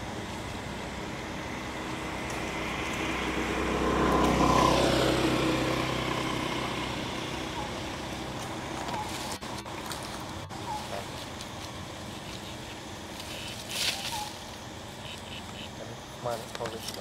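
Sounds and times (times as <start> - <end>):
vehicle engine passing: 0.0 - 14.2.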